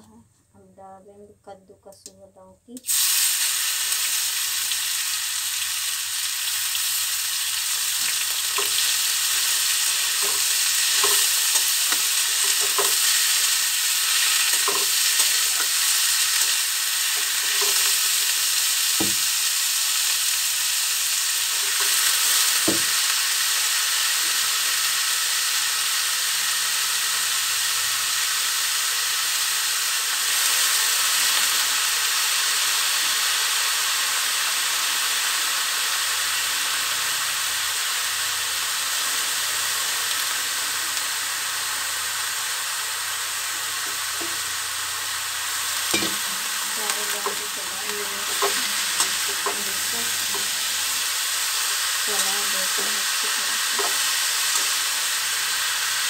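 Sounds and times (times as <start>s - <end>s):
food sizzling in oil: 2.7s - 56.0s.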